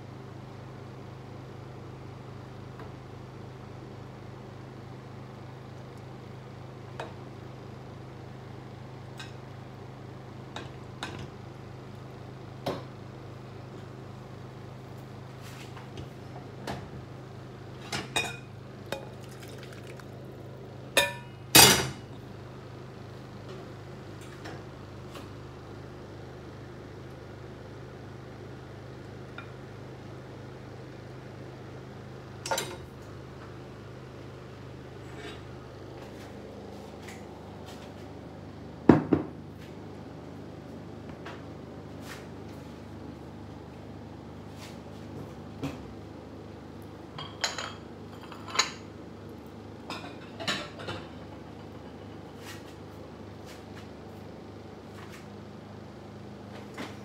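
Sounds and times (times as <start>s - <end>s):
low room hum: 0.0s - 57.0s.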